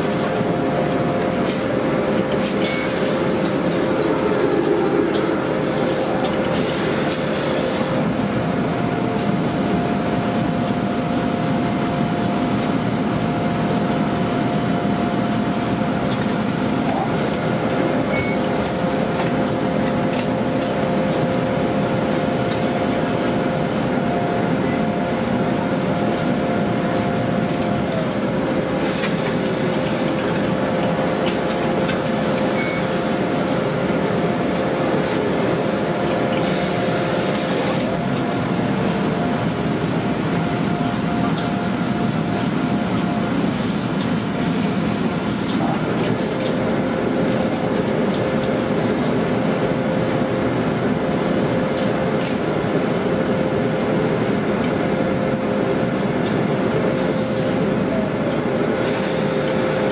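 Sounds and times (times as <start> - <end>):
laundry press machinery humming: 0.0 - 59.9.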